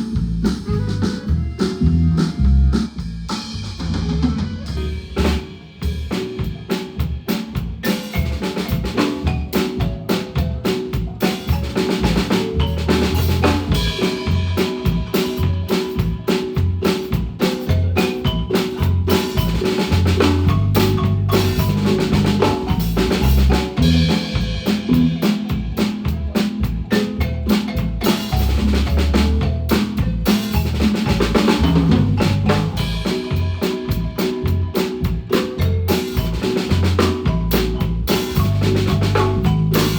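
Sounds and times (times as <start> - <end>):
drum kit beat: 0.0 - 39.9
marimba band playing: 0.0 - 39.9.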